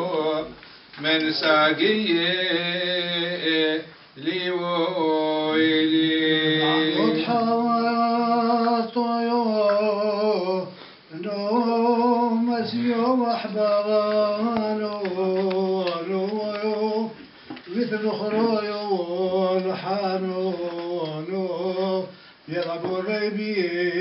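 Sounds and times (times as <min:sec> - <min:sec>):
man singing unaccompanied chant: 0:00.0 - 0:24.0.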